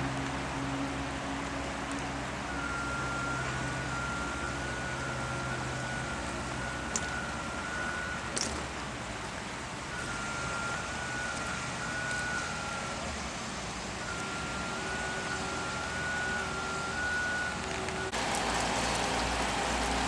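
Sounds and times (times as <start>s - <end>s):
low machinery hum and hiss: 0.0s - 20.0s.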